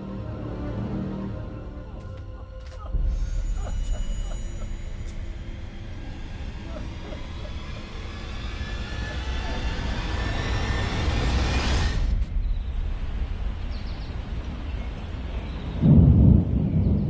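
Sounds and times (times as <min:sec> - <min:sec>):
rising noisy drone with climbing tones: 0:00.0 - 0:17.0.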